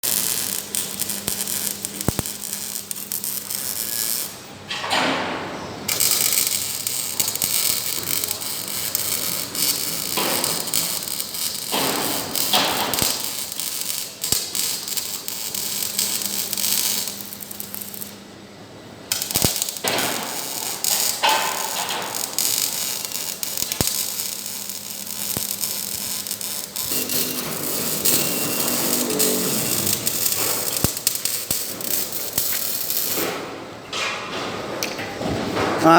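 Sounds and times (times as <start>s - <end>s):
steady electric hum: 0.0s - 35.9s.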